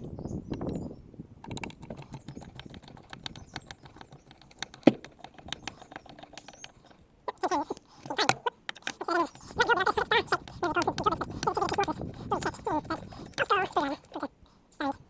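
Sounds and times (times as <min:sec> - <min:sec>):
screws clicking in wooden crate: 0:01.4 - 0:14.1.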